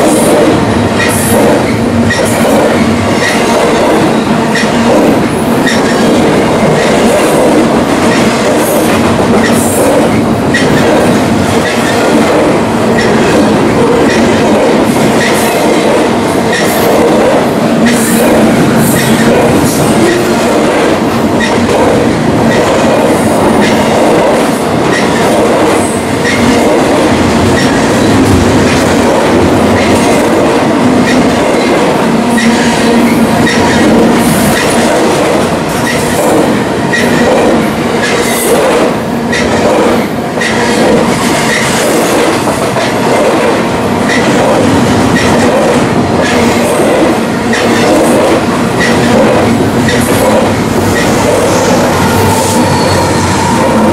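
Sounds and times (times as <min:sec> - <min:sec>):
train wheels clicking: 0:00.0 - 0:53.9
train wheels rumbling on rail: 0:00.0 - 0:53.9.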